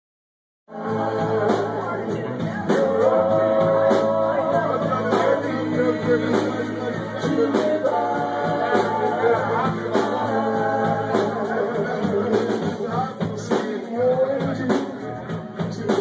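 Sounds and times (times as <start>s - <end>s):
live band music: 0.7s - 16.0s.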